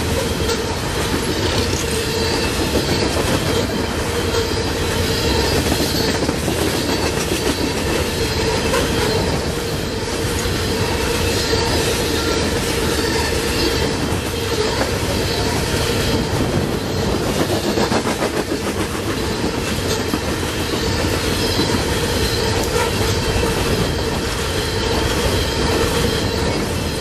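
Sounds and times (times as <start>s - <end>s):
steel wheels rumbling on rail: 0.0s - 27.0s
wheel squeal: 0.1s - 18.2s, 19.0s - 27.0s.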